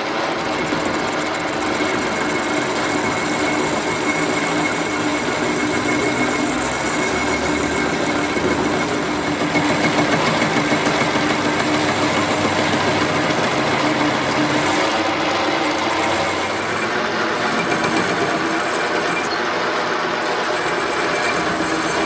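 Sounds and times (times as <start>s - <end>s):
metal lathe humming: 0.0s - 22.0s
fine mechanical rattle: 0.3s - 22.0s.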